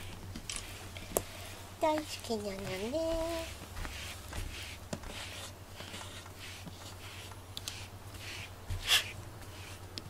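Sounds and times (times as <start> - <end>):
brush stroking cat fur: 0.0 - 10.0.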